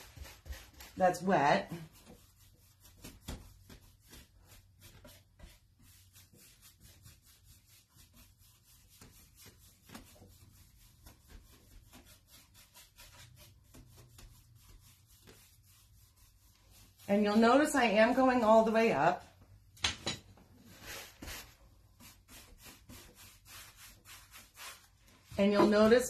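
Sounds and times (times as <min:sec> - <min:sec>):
paintbrush swishing: 0:00.0 - 0:18.6, 0:20.7 - 0:26.0.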